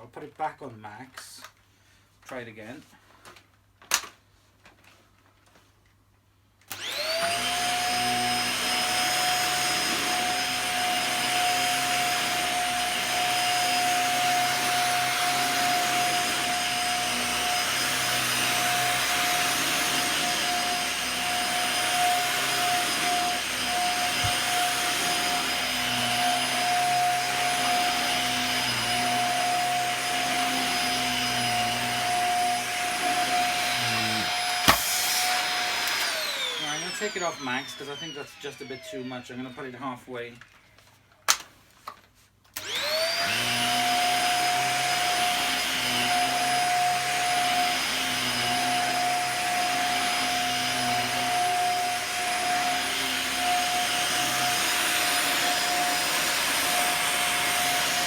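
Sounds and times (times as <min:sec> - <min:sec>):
vacuum cleaner motor whine: 0:06.7 - 0:40.7, 0:42.6 - 0:58.0.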